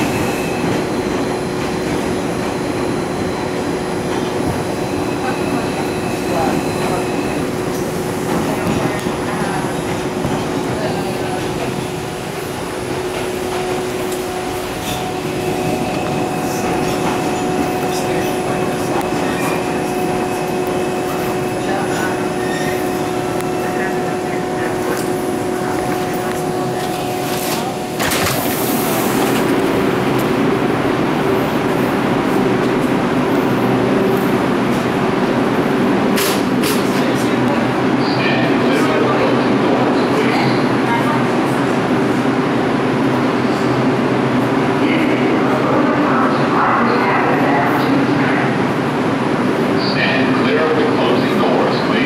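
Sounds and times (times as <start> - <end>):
rumble of wheels on rail: 0.0 - 52.0
subway train whine: 0.0 - 52.0.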